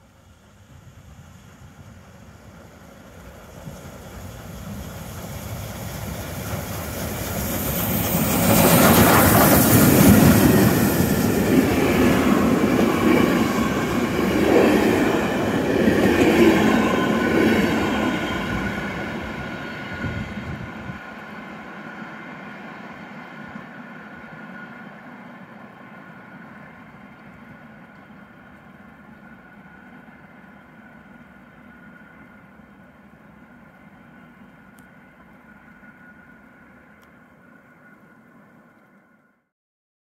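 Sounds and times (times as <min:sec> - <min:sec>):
steam train passing: 0:00.0 - 0:39.4.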